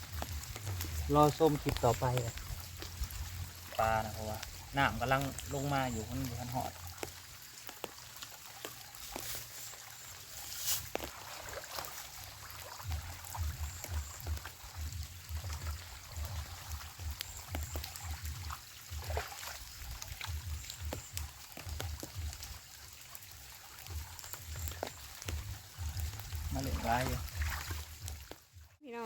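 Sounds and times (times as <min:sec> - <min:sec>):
small splashes or clicks: 0:00.0 - 0:28.6
water trickling and pouring: 0:00.0 - 0:29.0.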